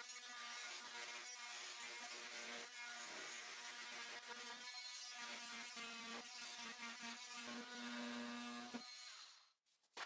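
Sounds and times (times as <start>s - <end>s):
oscillating multi-tool buzzing: 0.0s - 9.5s.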